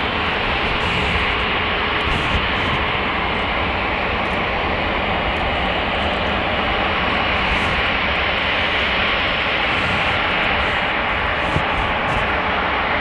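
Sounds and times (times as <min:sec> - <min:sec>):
airplane engines running: 0:00.0 - 0:13.0.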